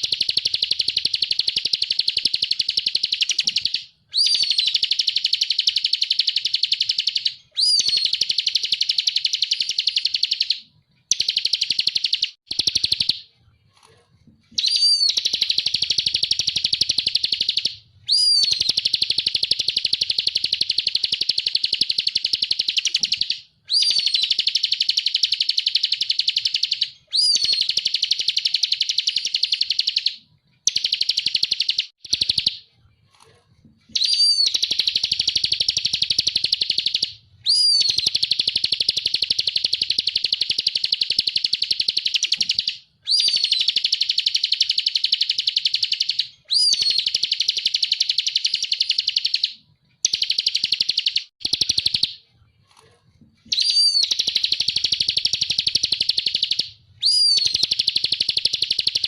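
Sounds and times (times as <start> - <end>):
bird singing buzzy trills: 0.0 - 13.2, 14.6 - 30.1, 34.0 - 49.4, 53.5 - 59.0.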